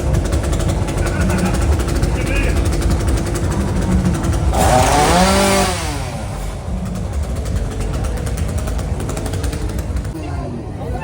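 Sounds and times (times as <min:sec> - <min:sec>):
chainsaw idling and revving: 0:00.0 - 0:10.2.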